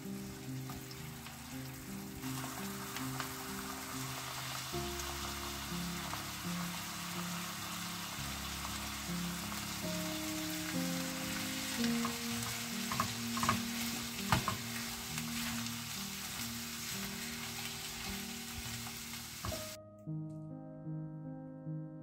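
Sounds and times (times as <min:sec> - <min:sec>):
vegetables sizzling in frying pan: 0:00.0 - 0:19.8
soft background music: 0:00.0 - 0:22.0.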